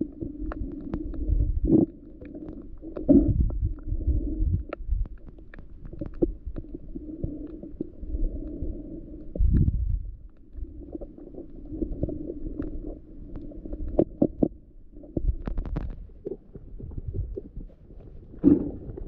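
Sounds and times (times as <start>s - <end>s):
muffled underwater rumbling: 0.0s - 19.0s.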